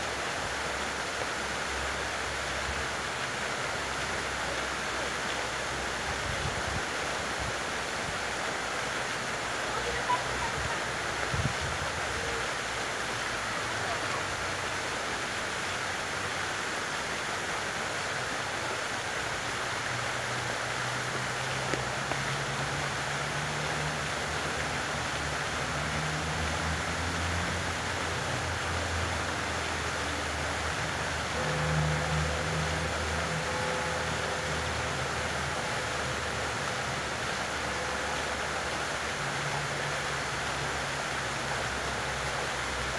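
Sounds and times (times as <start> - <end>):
fountain water splashing: 0.0 - 42.9.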